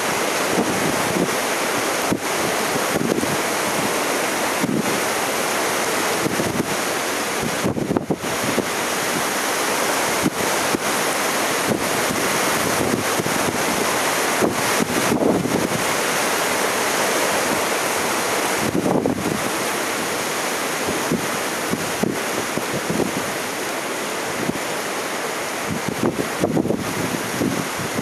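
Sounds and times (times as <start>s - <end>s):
surf breaking on shore: 0.0s - 28.0s
wind buffeting microphone: 0.0s - 28.0s.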